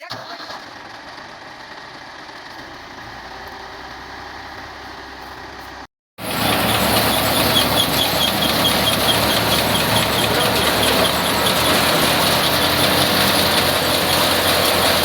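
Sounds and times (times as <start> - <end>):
tractor engine driving thresher: 0.1 - 15.0.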